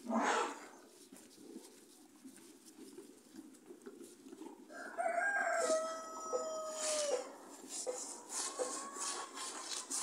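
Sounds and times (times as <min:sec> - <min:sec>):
cows crunching dry stalks: 0:00.8 - 0:10.0.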